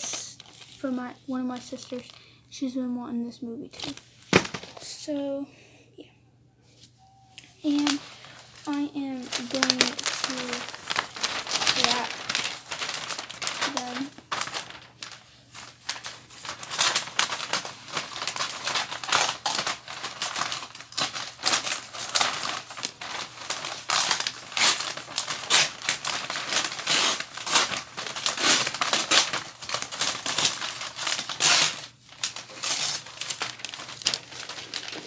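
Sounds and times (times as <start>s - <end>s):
wrapping paper crinkling: 0.0s - 2.3s, 3.7s - 4.9s, 7.5s - 35.0s.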